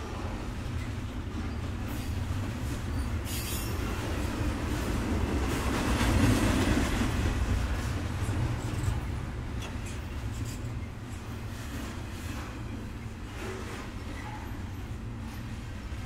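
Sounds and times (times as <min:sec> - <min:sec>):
train passing: 0:00.0 - 0:16.0.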